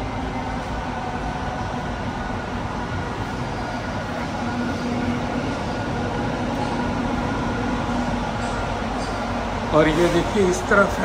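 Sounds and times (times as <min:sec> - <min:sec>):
constant humming tone: 0:00.0 - 0:10.9
train running noise inside carriage: 0:00.0 - 0:11.0.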